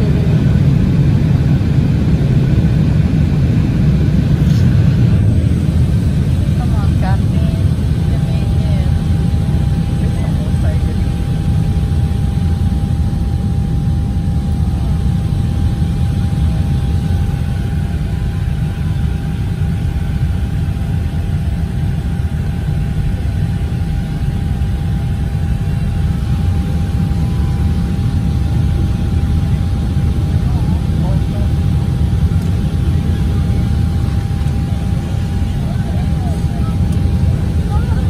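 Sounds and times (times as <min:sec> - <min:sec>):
jet engines and rushing air: 0:00.0 - 0:38.0.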